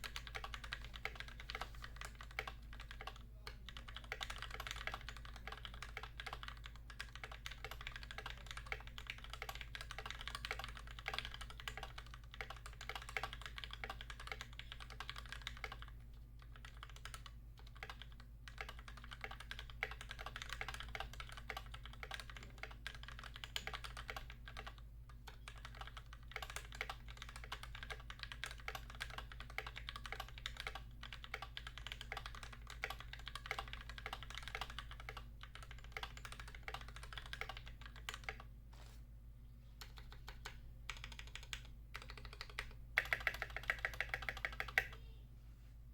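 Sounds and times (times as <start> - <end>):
fast mechanical keyboard typing: 0.0 - 38.5, 39.8 - 45.0.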